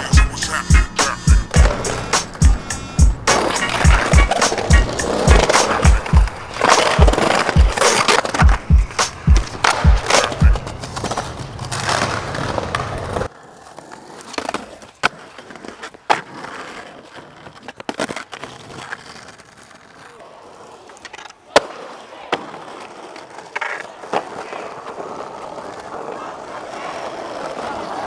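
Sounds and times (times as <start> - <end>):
skateboard wheels rolling on pavement: 0.0 - 28.0
skateboard tail clacks and landings: 1.0 - 28.0.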